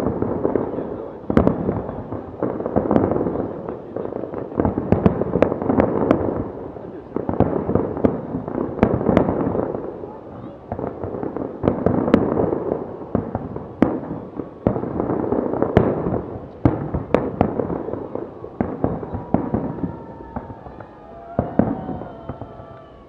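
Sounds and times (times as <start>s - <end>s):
fireworks crackling rumble: 0.0s - 23.0s
loud firework bangs: 0.0s - 23.0s.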